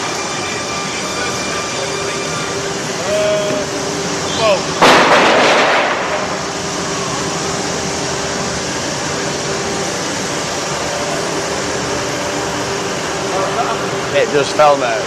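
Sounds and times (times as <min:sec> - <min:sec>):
factory machinery whirring: 0:00.0 - 0:15.0.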